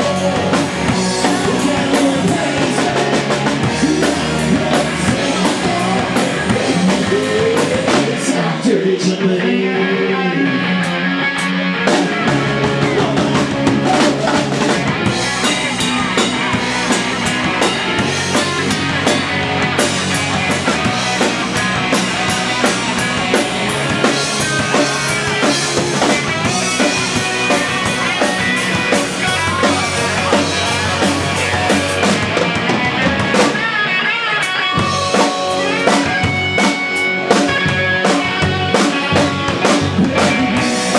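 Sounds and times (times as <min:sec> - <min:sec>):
drum kit: 0:00.0 - 0:08.8, 0:10.7 - 0:40.9
bass guitar: 0:00.0 - 0:40.9
electric guitar: 0:00.0 - 0:40.9.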